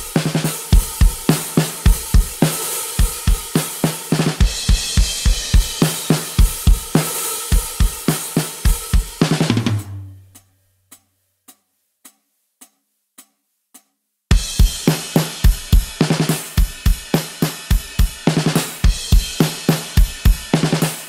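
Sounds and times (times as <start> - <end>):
drum kit rock beat: 0.0 - 10.4, 14.3 - 21.0
soft metronome ticks: 0.0 - 21.0.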